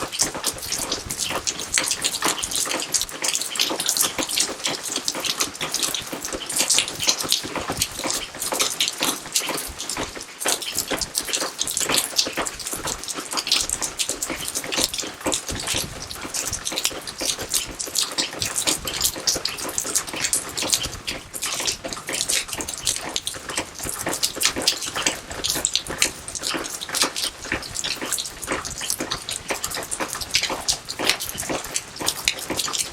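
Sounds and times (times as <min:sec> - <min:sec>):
rain falling: 0:00.0 - 0:32.9.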